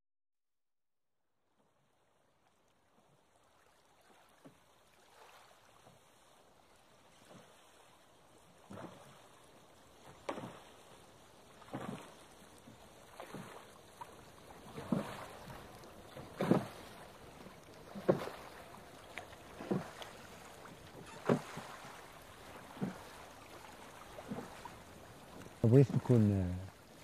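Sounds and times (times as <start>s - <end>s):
oars rowing a boat: 1.5s - 27.0s.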